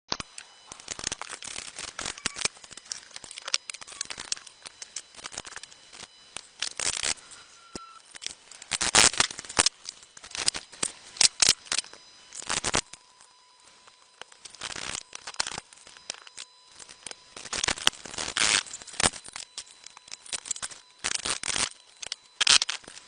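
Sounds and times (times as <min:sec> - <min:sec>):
hands and tools working on parts: 0:00.1 - 0:23.0.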